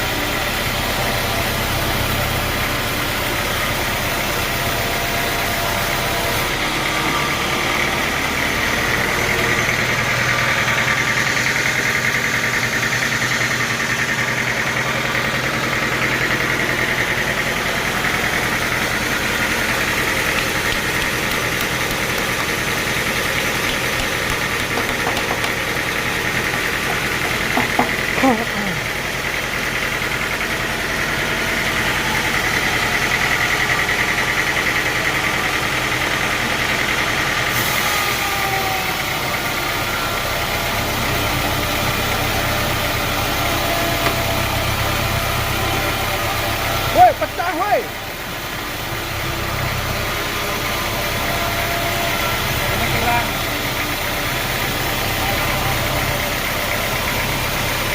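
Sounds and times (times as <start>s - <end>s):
sawmill machinery droning: 0.0s - 57.9s.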